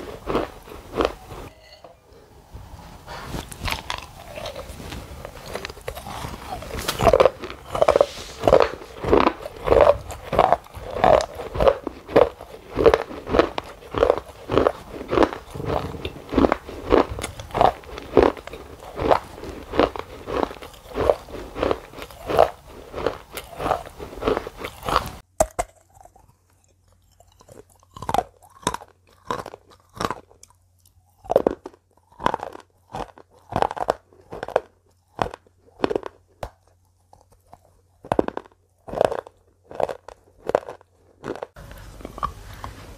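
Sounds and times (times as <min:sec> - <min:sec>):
wet crunchy mouth sounds: 0:00.0 - 0:01.5, 0:03.1 - 0:42.9
faint low hum: 0:00.0 - 0:42.9.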